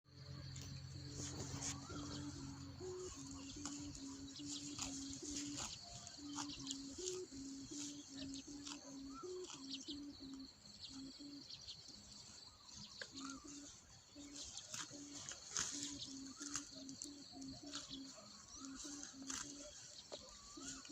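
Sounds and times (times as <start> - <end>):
birds chirping: 0.1 - 20.9.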